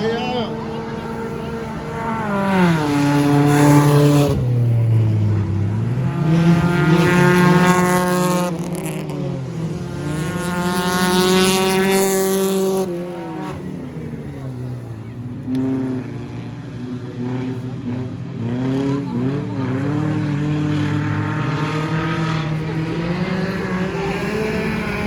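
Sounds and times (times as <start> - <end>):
stock car engines racing past: 0.0 - 25.0.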